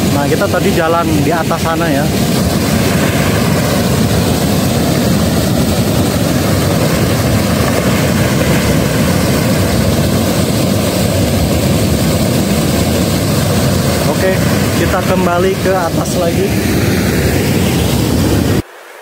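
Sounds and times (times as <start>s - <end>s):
water rushing and churning: 0.0s - 19.0s.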